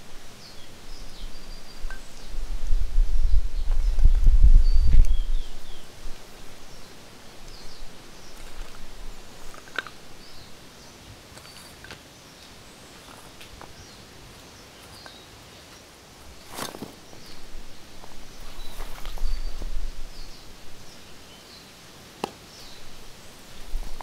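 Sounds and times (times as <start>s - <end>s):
steady hiss: 0.0s - 24.0s
faint bird chirps: 0.3s - 2.5s, 3.2s - 15.9s, 17.0s - 21.8s.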